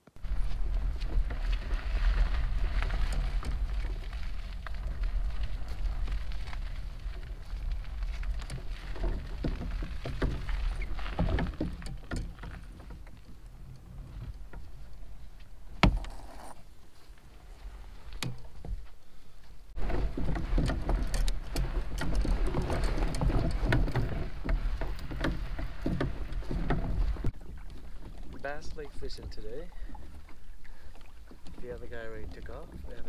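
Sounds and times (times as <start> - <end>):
wheels crunching on gravel: 0.0 - 29.9, 31.6 - 33.0.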